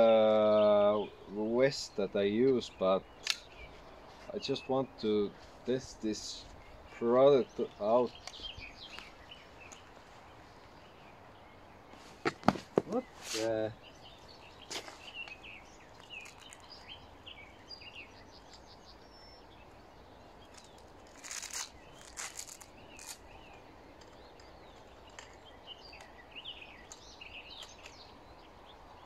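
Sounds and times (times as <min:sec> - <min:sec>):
birds chirping and singing: 0:00.0 - 0:29.0
faint outdoor background: 0:00.0 - 0:29.0.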